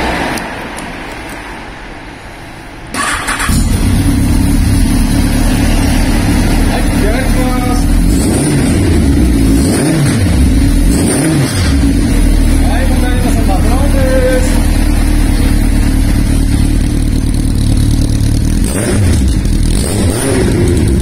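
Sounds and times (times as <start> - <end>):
motorcycle engine idling and revving: 3.0 - 21.0.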